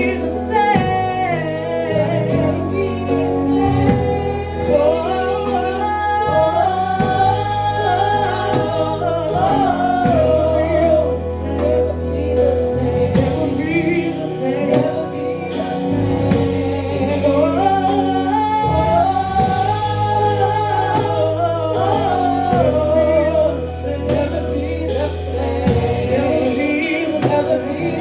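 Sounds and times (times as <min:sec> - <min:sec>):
bass: 0:00.0 - 0:28.0
keyboard: 0:00.0 - 0:28.0
steady drum beat: 0:00.0 - 0:28.0
voices singing wordless melody: 0:00.0 - 0:28.0.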